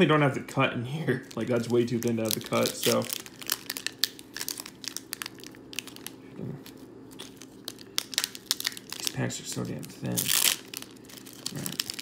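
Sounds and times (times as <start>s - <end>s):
foil wrapper crinkling: 1.1s - 12.0s.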